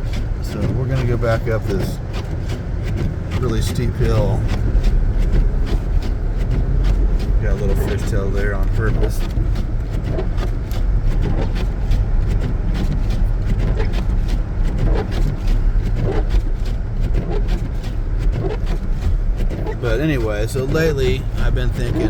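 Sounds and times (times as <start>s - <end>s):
car driving through deep snow: 0.0s - 22.0s.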